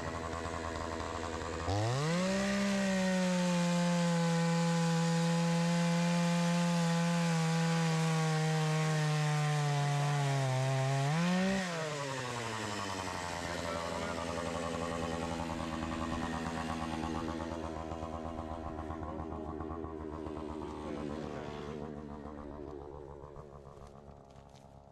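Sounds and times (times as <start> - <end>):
chainsaw cutting wood: 0.0 - 24.9.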